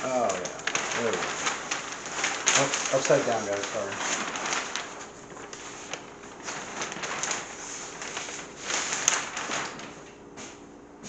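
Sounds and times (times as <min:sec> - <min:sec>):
paper sheets rustling and crackling: 0:00.0 - 0:11.0.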